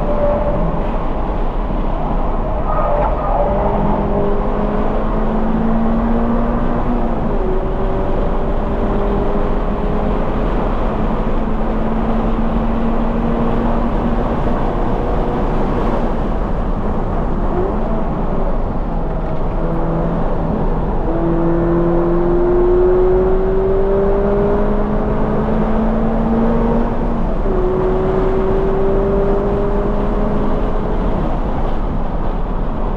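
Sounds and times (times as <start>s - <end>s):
road and wind noise: 0.0s - 32.9s
car engine accelerating hard: 1.8s - 32.0s.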